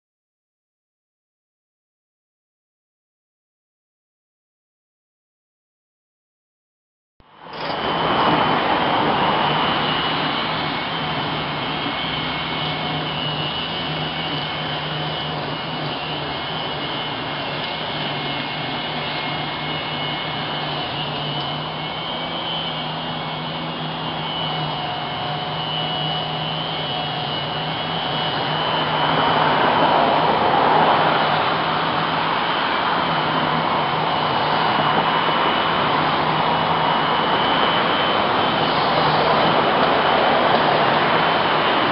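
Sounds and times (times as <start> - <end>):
vacuum motor running: 7.5 - 41.9.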